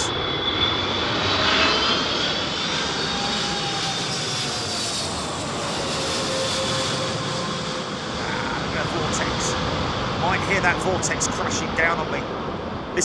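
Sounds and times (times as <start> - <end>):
jet engines roaring and whining: 0.0 - 13.0.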